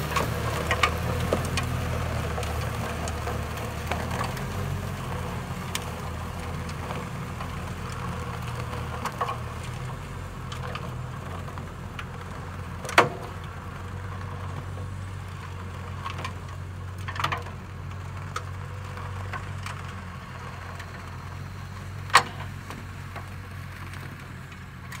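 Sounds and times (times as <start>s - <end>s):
distant truck engine humming: 0.0s - 25.0s.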